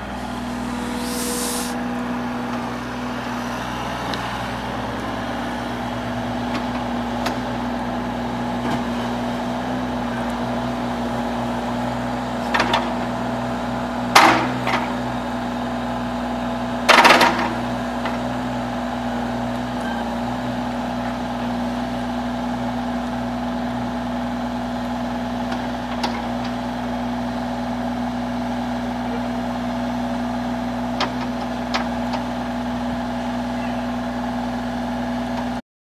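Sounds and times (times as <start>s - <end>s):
excavator diesel engine running: 0.0s - 35.6s.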